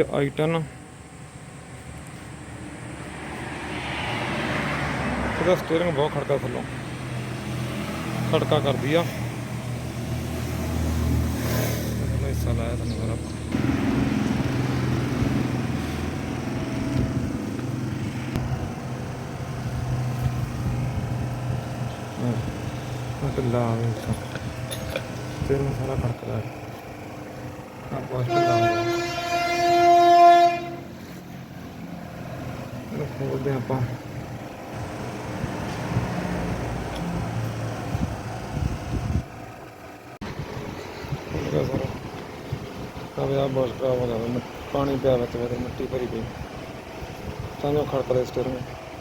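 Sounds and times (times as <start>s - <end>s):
car engine idling: 4.7s - 11.3s, 12.0s - 49.0s
low mechanical hum: 6.4s - 49.0s.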